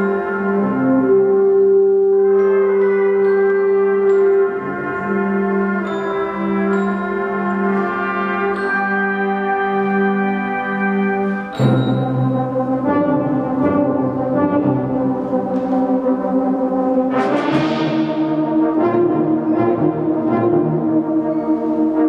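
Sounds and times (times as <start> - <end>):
brass band playing chords: 0.0 - 22.0.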